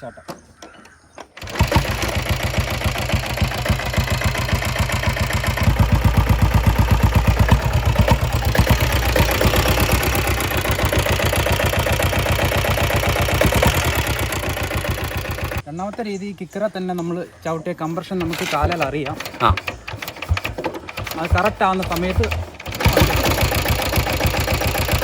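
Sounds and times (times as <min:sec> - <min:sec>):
diesel motorcycle engine knocking: 0:01.4 - 0:15.6, 0:18.2 - 0:25.0.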